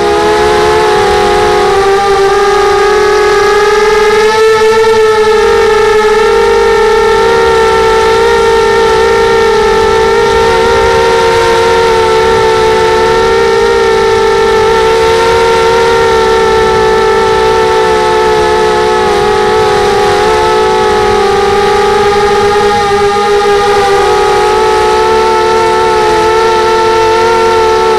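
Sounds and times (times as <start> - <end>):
drone propellers whining: 0.0 - 27.9.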